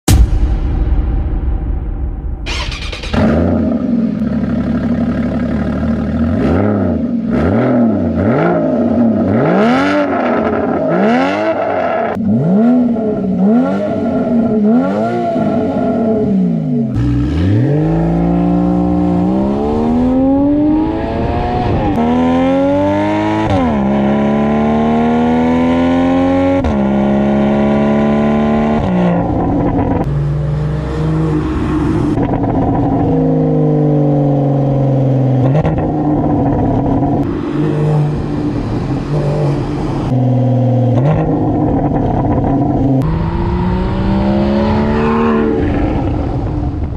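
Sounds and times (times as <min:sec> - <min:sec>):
car engine revving: 0:02.4 - 0:46.9.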